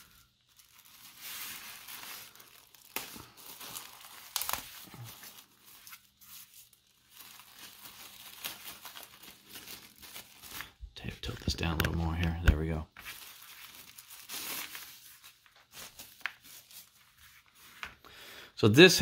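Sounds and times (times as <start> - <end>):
plastic bag tearing and crinkling: 0.0 - 17.6.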